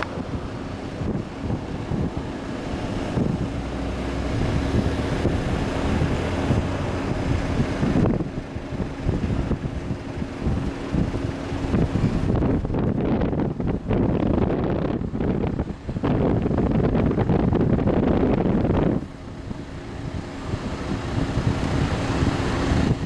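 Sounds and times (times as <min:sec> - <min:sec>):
jet engines at takeoff: 0:00.0 - 0:23.0
wind buffeting microphone: 0:00.0 - 0:23.0.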